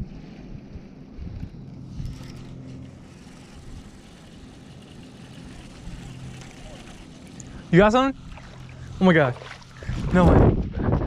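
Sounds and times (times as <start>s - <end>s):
faint steady hum: 0.0s - 10.4s
wind rumbling on microphone: 0.0s - 11.0s.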